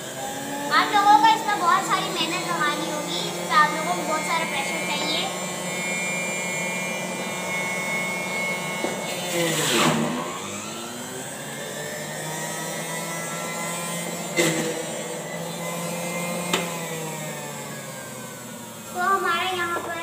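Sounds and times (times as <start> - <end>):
juicer motor running: 0.0 - 20.0.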